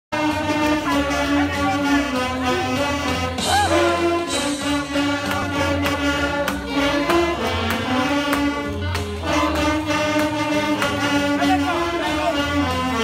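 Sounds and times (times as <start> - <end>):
saxophone ensemble with trombone: 0.1 - 13.0
steady beat: 0.2 - 12.9.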